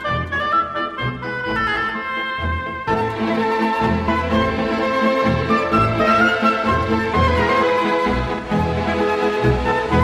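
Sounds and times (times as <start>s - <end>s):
orchestral string music: 0.0s - 10.0s.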